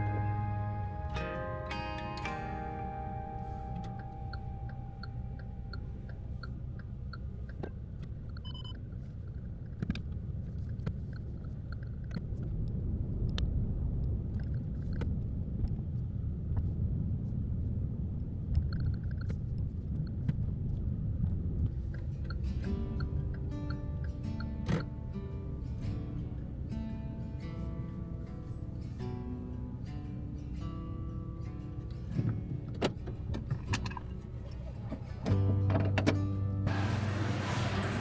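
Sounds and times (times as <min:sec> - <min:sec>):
road rumble inside moving car: 0:00.0 - 0:38.0.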